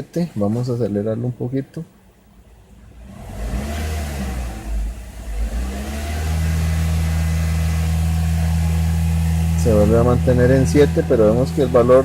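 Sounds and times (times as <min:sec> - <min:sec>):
car engine revving lightly: 0:02.2 - 0:12.0.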